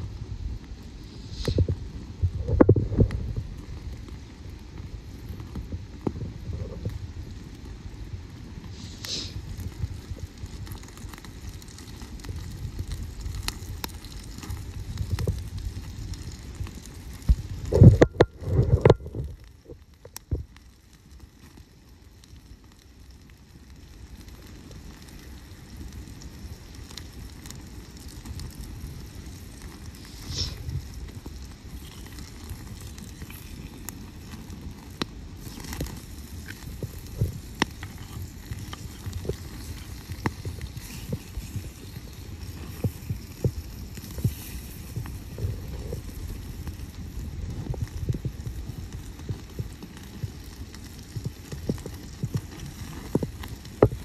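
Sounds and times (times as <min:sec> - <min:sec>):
burning wood crackling and popping: 0:00.0 - 0:54.0
campfire flame rumbling: 0:00.0 - 0:54.0.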